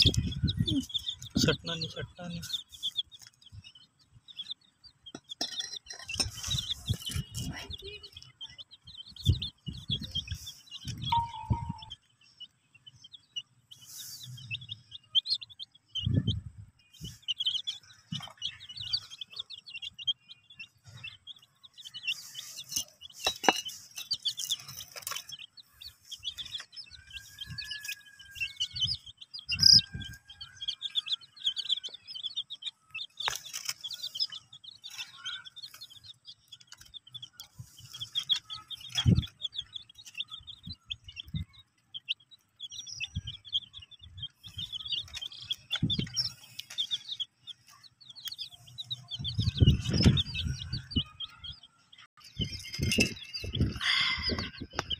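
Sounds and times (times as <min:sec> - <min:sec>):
baby chicks peeping: 0:00.0 - 0:54.9.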